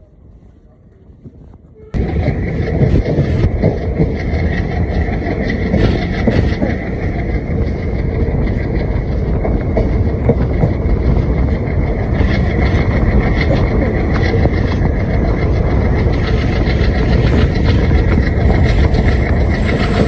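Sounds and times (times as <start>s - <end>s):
train rumbling on track: 0.0s - 20.0s
wheels clattering on rails: 1.1s - 20.0s.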